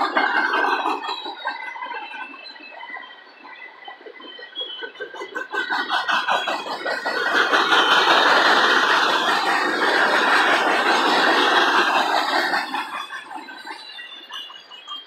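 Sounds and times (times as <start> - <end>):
freight cars rattling on rails: 0.0 - 3.0, 4.0 - 15.0.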